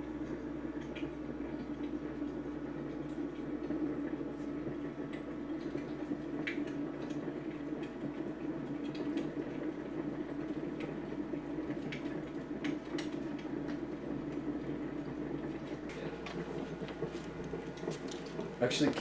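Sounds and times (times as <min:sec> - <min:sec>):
faint clicks and ticks: 0:00.0 - 0:19.0
steady low hum: 0:00.0 - 0:19.0.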